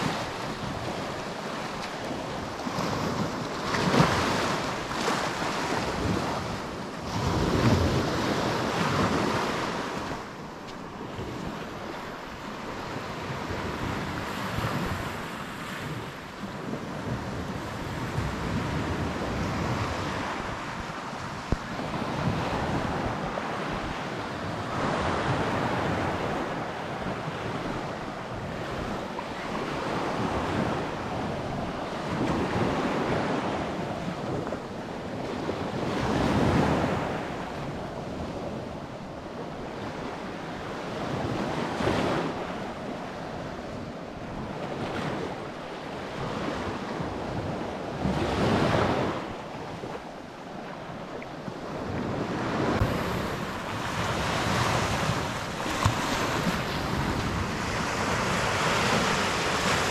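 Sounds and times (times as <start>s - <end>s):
surf washing onto shore: 0.0s - 59.9s
wind rumble on microphone: 0.0s - 59.9s.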